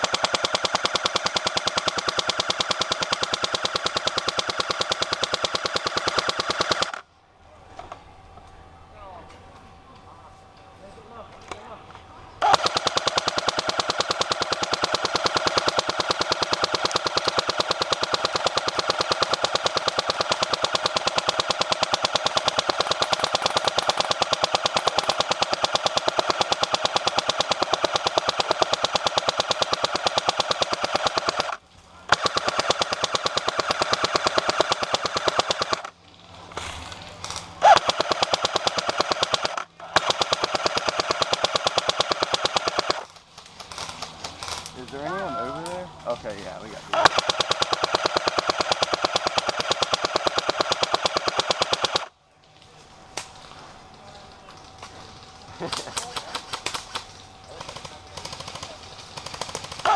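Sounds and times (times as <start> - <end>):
airsoft gun firing full-auto bursts: 0.0 - 7.0, 12.4 - 36.0, 37.2 - 45.3, 46.9 - 52.1, 55.6 - 59.9.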